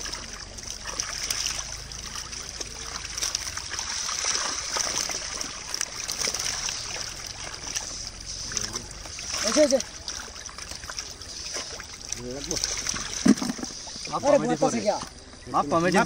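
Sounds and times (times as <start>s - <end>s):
basket scooping through water: 0.0s - 15.2s
fish thrashing and splashing: 0.0s - 16.0s
water draining from basket: 0.0s - 16.0s.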